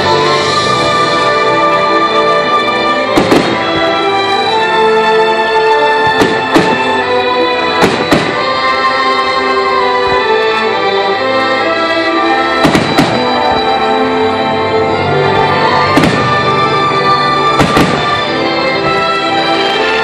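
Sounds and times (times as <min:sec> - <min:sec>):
instrumental music of sustained notes: 0:00.0 - 0:20.0.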